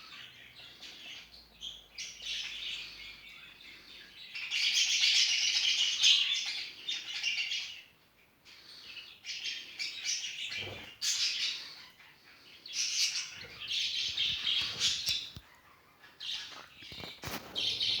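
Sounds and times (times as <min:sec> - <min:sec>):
budgerigars chattering and warbling: 0:00.0 - 0:07.9, 0:08.5 - 0:18.0.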